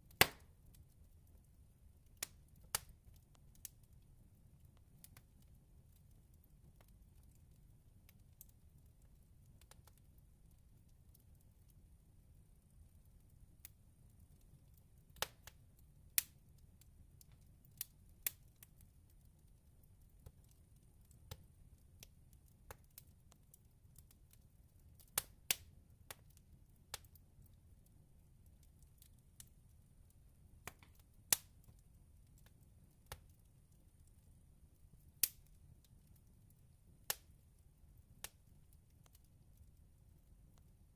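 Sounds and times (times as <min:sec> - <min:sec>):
log fire crackling: 0:00.0 - 0:40.9
low rumble of burning fire: 0:00.0 - 0:40.9.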